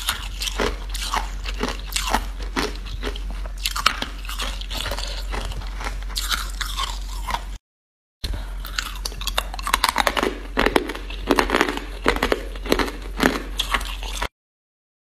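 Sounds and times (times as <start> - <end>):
ice being chewed: 0.0 - 7.6, 8.6 - 14.4.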